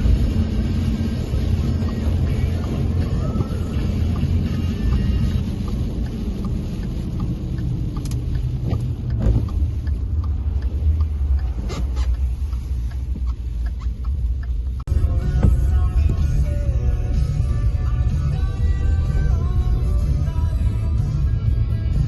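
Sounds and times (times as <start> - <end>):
car driving engine and tyres: 0.0 - 22.0.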